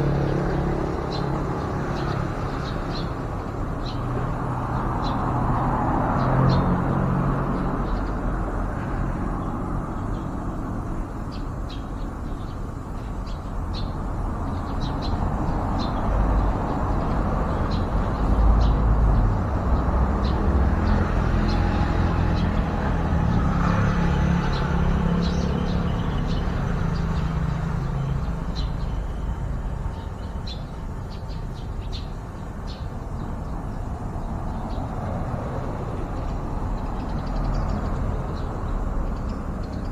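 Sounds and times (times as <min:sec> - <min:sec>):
low rumble of traffic: 0:00.0 - 0:39.9.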